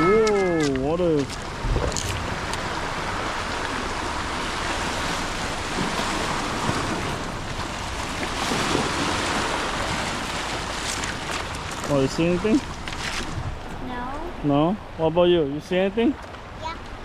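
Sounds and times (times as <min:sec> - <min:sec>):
ocean waves on rocky shore: 0:00.0 - 0:17.0.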